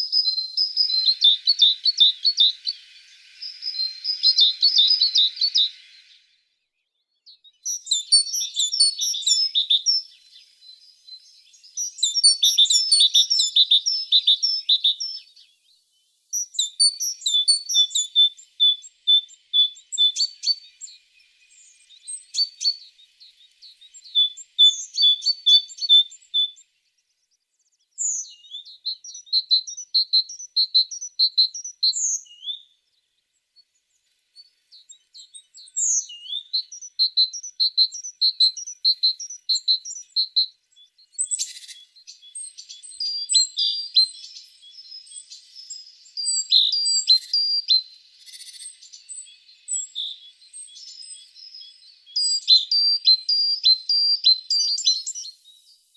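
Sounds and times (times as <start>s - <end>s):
overlapping bird chirps and calls: 0.0s - 55.9s.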